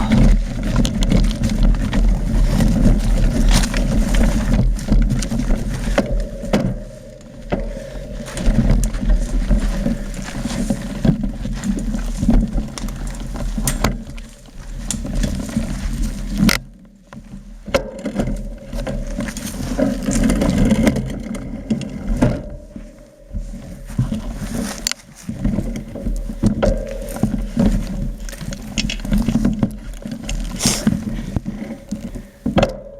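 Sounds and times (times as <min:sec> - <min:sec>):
bike knocks and rattles: 0:00.0 - 0:32.9
wind and tyre rumble: 0:00.0 - 0:32.9.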